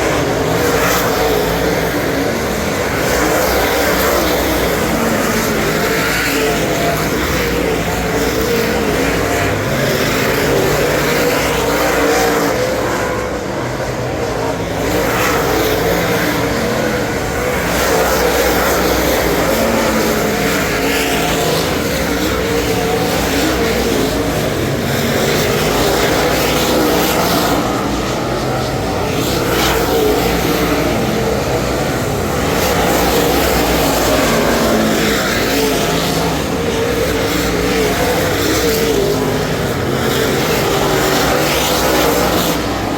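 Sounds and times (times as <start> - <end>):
racing engine revving: 0.0 - 42.9.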